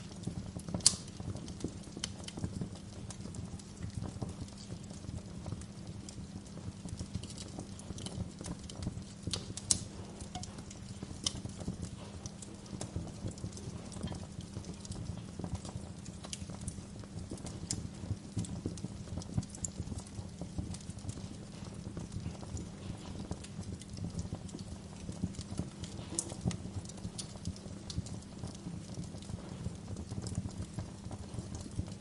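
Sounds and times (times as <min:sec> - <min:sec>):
low rumble of flames: 0:00.0 - 0:32.0
wood fire crackling: 0:00.0 - 0:32.0.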